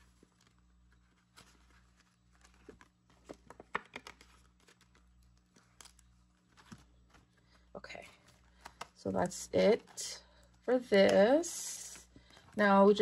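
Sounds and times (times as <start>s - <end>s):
plastic binder pocket crinkling: 0.0s - 11.4s
paper banknotes rustling: 0.0s - 13.0s.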